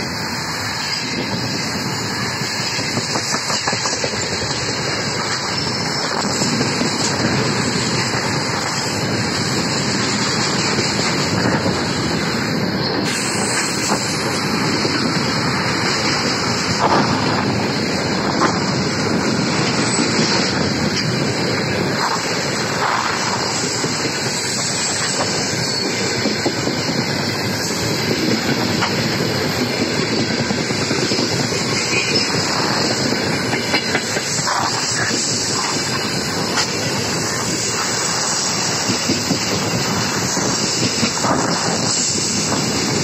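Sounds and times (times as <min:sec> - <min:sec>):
freight train wheels rumbling: 0:00.0 - 0:43.0
wheels clicking over rail joints: 0:00.0 - 0:43.0.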